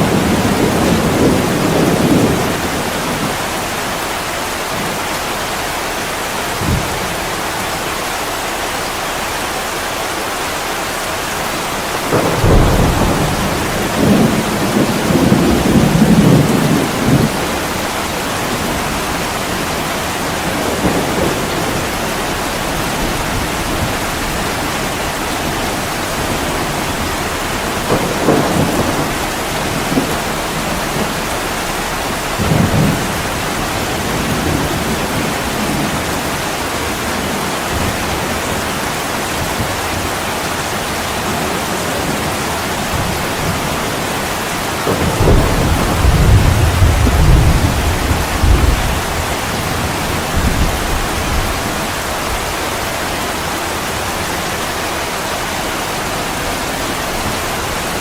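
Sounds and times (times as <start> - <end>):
thunder rumbling: 0.0 - 10.0, 11.0 - 58.0
heavy rain on a window: 0.0 - 58.0.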